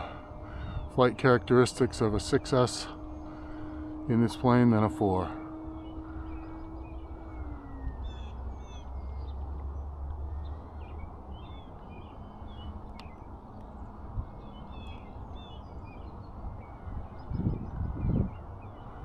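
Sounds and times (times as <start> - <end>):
birds chirping: 0.0 - 19.0
distant rc plane motor drone: 0.0 - 19.0
wind rumble on microphone: 0.0 - 19.0.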